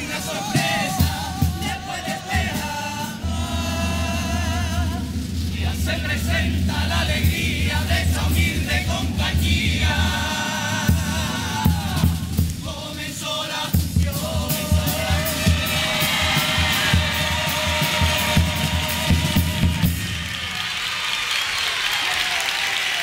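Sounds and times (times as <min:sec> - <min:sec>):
drum strikes: 0:00.0 - 0:20.2
chorus singing together: 0:00.0 - 0:20.3.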